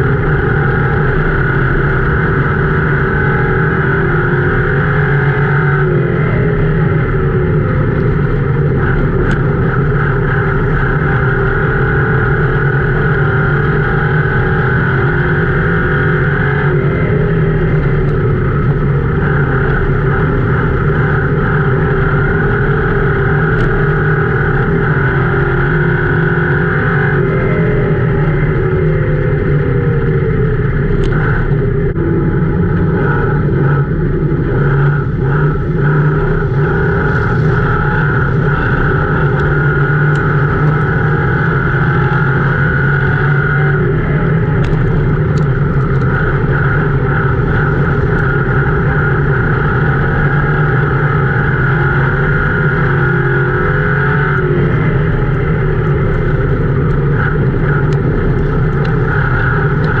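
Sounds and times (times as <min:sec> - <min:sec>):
race car engine running hard: 0:00.0 - 1:00.0.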